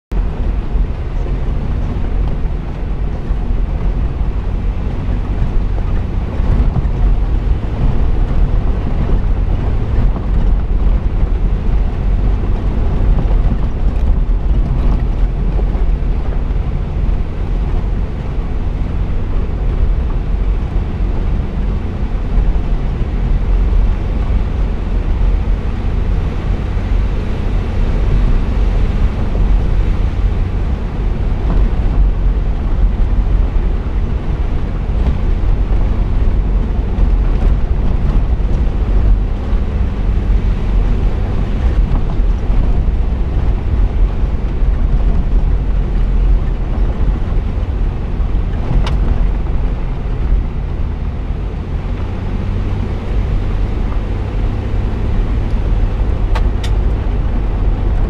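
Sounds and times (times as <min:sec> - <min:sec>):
engine and tyres on gravel: 0:00.1 - 0:58.0
wind on microphone: 0:00.1 - 0:58.0.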